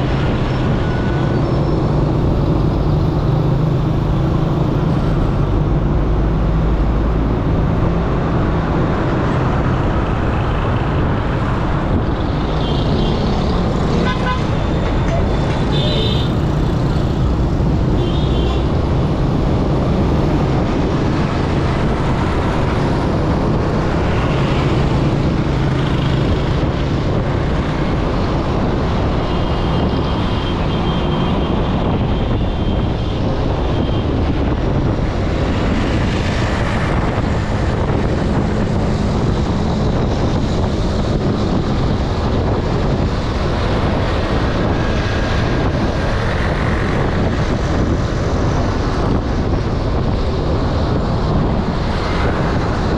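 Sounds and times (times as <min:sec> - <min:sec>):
road traffic rumble: 0:00.0 - 0:52.9
wind buffeting microphone: 0:00.0 - 0:52.9.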